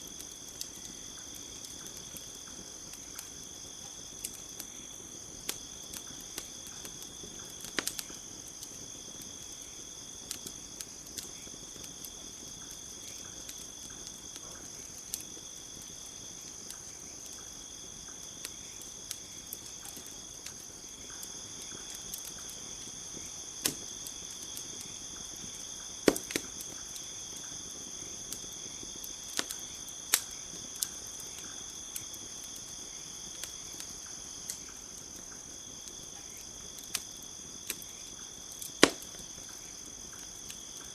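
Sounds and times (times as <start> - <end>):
campfire crackling and popping: 0.0 - 40.9
crickets chirring: 0.0 - 40.9.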